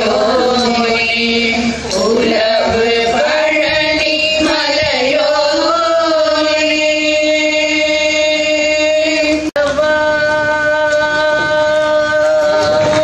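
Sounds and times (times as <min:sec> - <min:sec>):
women singing in unison: 0:00.0 - 0:13.0.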